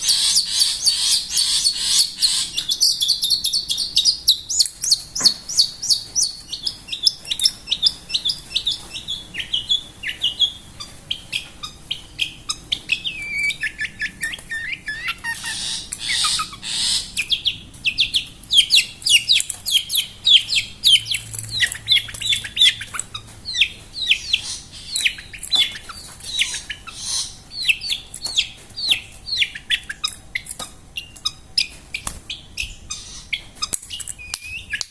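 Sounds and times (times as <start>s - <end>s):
bird song of chirps and trills: 0.0s - 34.9s.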